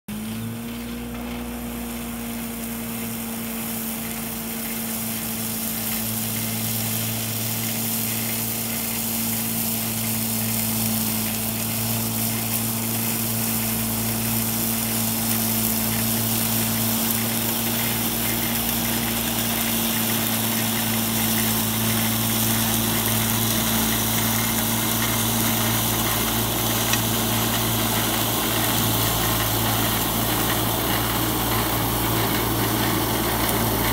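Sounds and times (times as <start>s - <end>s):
flail mower shredding grass: 0.1s - 33.9s
machine humming: 0.1s - 33.9s.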